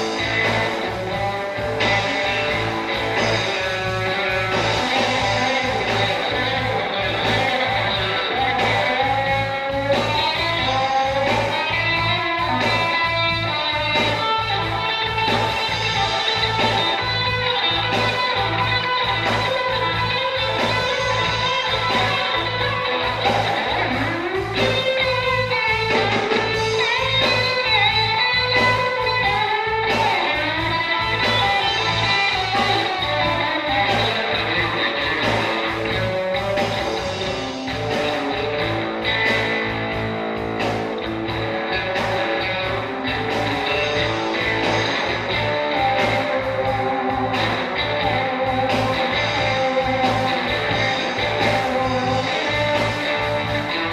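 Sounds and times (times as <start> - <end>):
guitar music with steady beat: 0.0 - 53.9.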